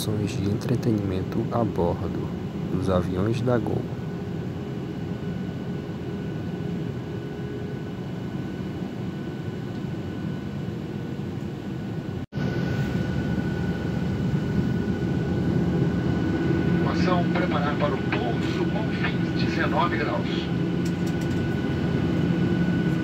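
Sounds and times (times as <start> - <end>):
aircraft engines and airflow rumble: 0.0 - 23.0.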